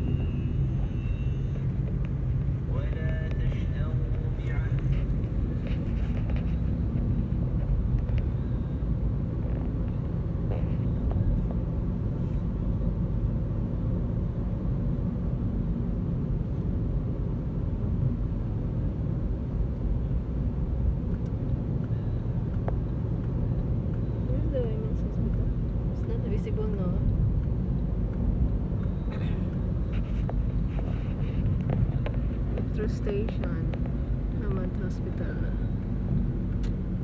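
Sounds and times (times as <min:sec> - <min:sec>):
car engine and road noise inside cabin: 0:00.0 - 0:37.0.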